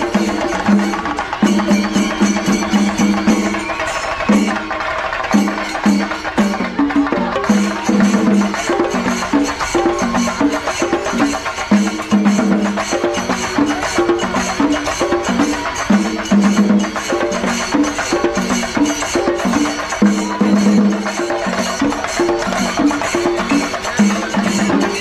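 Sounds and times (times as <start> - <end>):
drums beaten fast with sticks: 0.0 - 25.0
hand cymbals clashing: 0.0 - 25.0.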